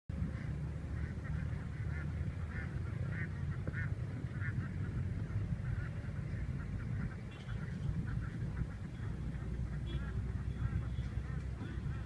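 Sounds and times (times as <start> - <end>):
ducks quacking: 0.1 - 12.0.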